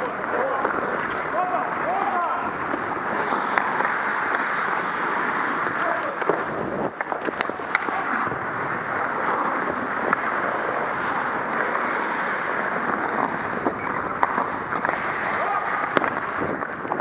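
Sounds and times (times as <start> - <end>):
hockey sticks and puck clacking: 0.0 - 17.0
skate blades scraping on ice: 0.0 - 17.0
air rushing over microphone: 1.2 - 16.6.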